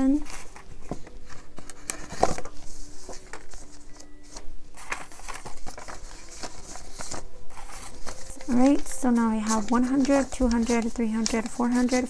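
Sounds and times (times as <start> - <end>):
paper bills rustling: 0.0 - 12.0.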